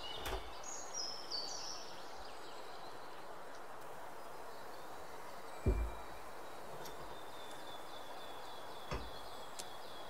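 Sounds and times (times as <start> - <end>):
bird chirping: 0.0 - 3.3, 4.2 - 10.0
background hiss: 0.0 - 10.0.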